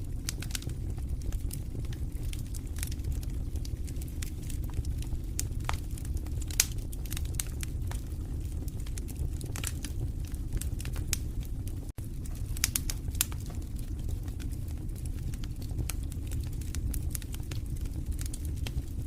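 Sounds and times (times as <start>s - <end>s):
burning logs crackling and popping: 0.0s - 19.0s
low rumble of flames: 0.0s - 19.0s.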